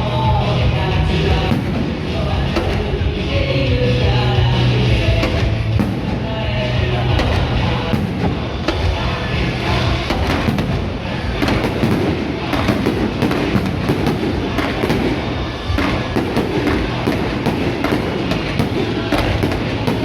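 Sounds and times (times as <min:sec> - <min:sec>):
fireworks bangs: 0:00.0 - 0:20.0
music playing: 0:00.0 - 0:20.0.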